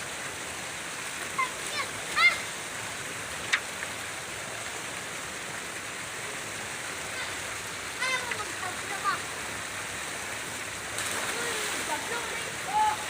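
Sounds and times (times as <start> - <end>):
falling water rushing: 0.0 - 13.0.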